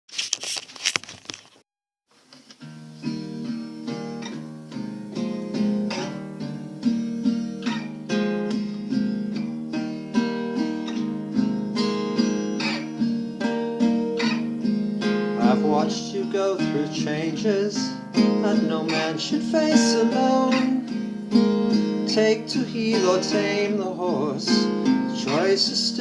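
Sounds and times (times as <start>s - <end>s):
acoustic guitar picking: 2.6s - 26.0s.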